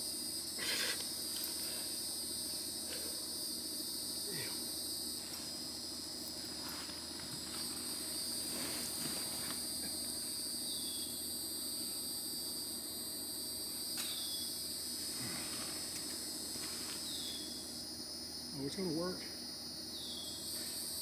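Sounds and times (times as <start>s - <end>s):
insects singing: 0.0s - 21.0s.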